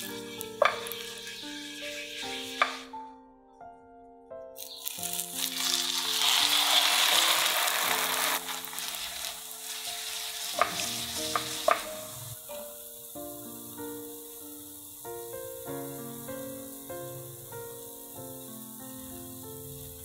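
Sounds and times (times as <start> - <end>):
pancake sizzling in hot oil: 0.0 - 3.0, 4.6 - 20.0
background music: 0.0 - 20.0.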